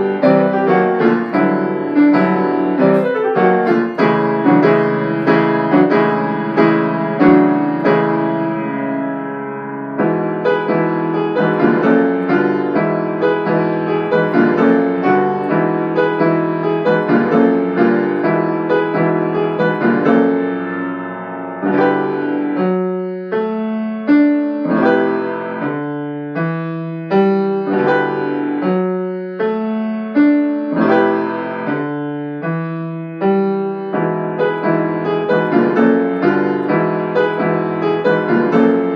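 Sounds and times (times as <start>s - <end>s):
piano piece: 0.0s - 38.9s.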